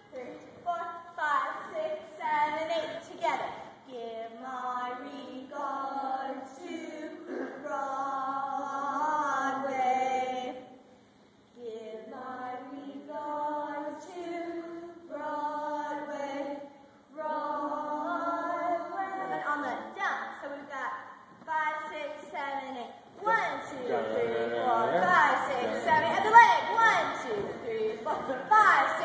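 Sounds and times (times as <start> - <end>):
unaccompanied singing voices: 0.0 - 10.9, 11.6 - 20.7, 23.2 - 29.0.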